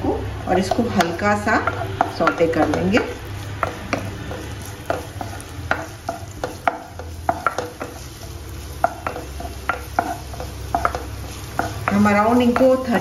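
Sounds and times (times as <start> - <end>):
garlic and ginger sizzling: 0.0 - 13.0
wooden spoon scraping a wok: 0.4 - 13.0.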